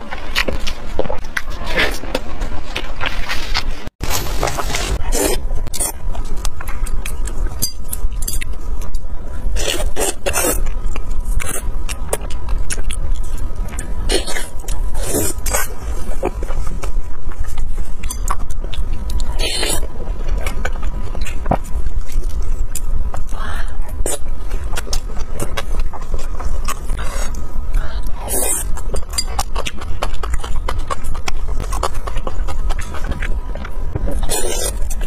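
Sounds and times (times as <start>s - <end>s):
low background hum: 0.0s - 35.0s
wet chewing of meat: 0.0s - 35.0s.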